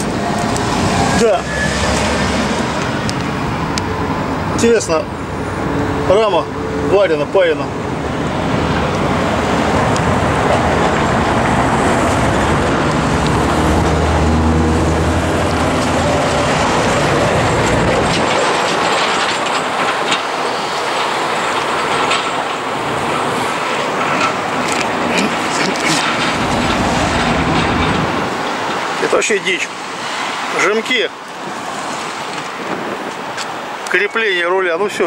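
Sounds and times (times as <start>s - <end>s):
vehicle rushing with engine drone: 0.0s - 33.6s.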